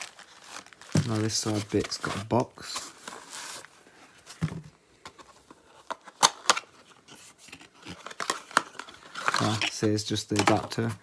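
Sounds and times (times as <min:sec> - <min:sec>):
cardboard packaging being handled: 0:00.0 - 0:11.0.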